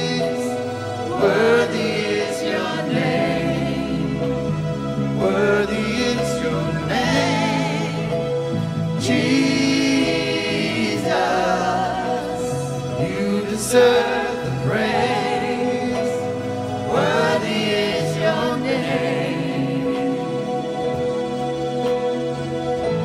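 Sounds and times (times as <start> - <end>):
voices singing worship song: 0.0 - 22.2
instrumental accompaniment: 0.0 - 23.0.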